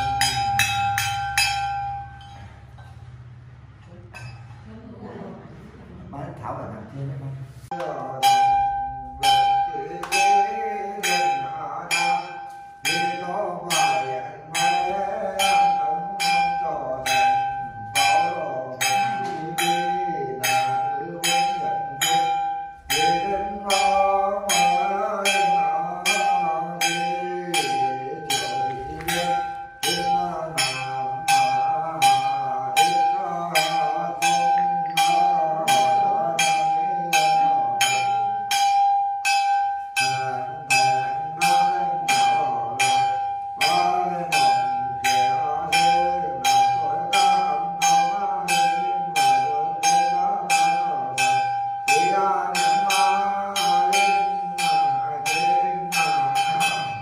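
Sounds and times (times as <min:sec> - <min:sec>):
small ritual bell struck: 0:00.0 - 0:03.2, 0:04.1 - 0:04.6, 0:07.7 - 0:57.0
man chanting: 0:06.1 - 0:39.0, 0:39.8 - 0:57.0.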